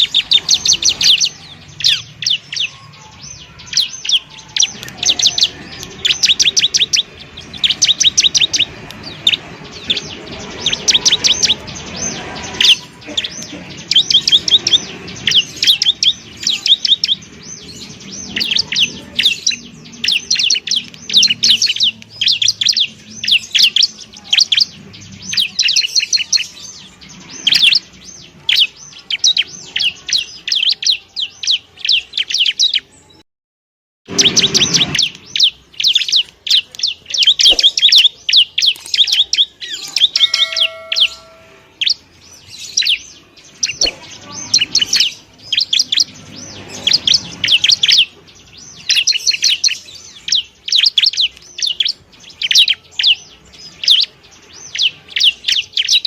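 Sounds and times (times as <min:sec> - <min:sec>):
bird chattering chirps: 0:00.0 - 0:33.2, 0:34.1 - 0:56.0.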